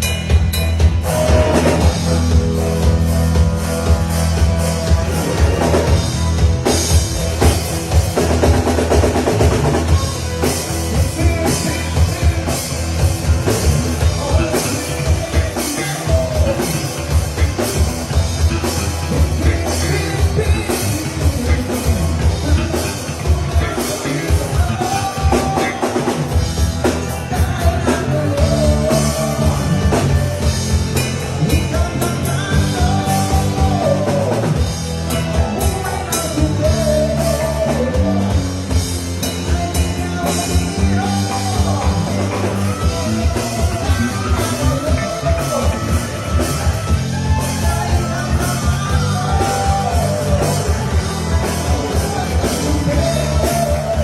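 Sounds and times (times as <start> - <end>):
drum kit beat: 0.0 - 54.0
rock music: 0.0 - 54.0.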